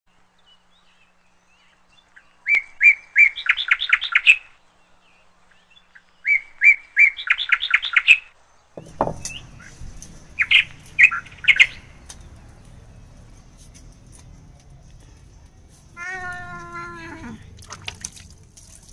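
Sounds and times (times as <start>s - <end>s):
bird chirping: 0.4s - 17.6s.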